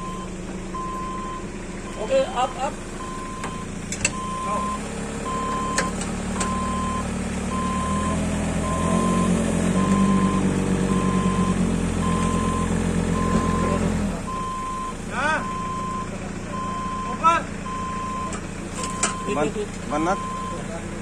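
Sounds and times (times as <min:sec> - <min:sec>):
reversing alarm beeping: 0:00.0 - 0:20.7
heavy vehicle engine running: 0:00.0 - 0:21.0.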